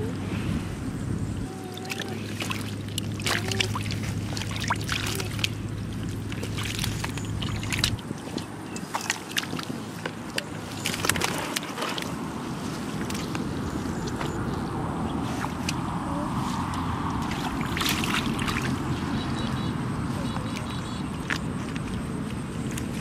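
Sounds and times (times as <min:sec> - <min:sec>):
low steady hum: 0:00.0 - 0:23.0
squelching and splashing in mud: 0:01.5 - 0:23.0.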